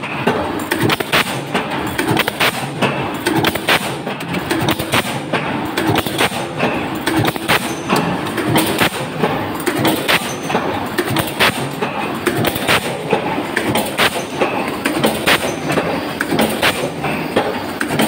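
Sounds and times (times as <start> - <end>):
press stamping sheet metal: 0.0 - 18.0.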